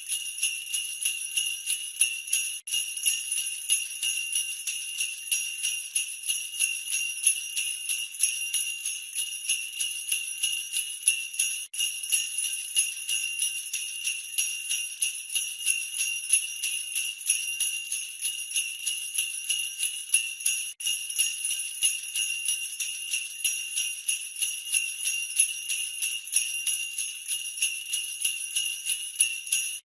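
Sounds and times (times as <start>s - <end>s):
jingle bells shaken: 0.0s - 29.9s.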